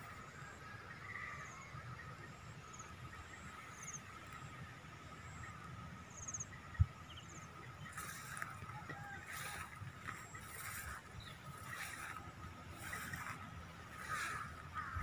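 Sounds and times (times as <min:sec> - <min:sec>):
insect drone: 0:00.0 - 0:15.0
low wind rumble: 0:00.2 - 0:15.0.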